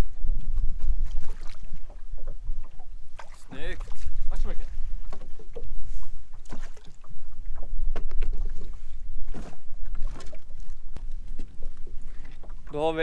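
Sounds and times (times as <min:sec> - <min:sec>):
wind buffeting microphone: 0:00.0 - 0:13.0
water slapping boat hull: 0:00.1 - 0:13.0.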